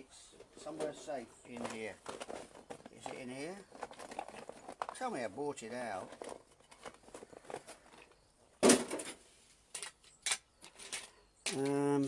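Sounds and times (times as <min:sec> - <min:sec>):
paint tubes clicking and rattling: 0:00.4 - 0:08.3, 0:09.0 - 0:12.0.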